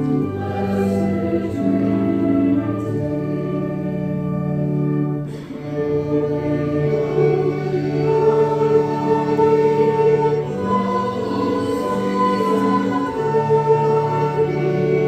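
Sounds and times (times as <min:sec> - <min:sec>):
congregation singing a hymn: 0:00.0 - 0:15.0
instrumental accompaniment: 0:00.0 - 0:15.0.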